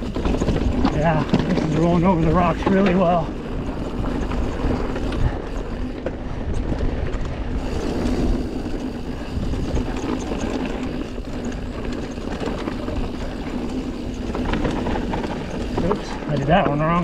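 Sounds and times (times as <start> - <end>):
bike rattles and clicks: 0.0 - 17.0
tyres rumbling over dirt and rocks: 0.0 - 17.0.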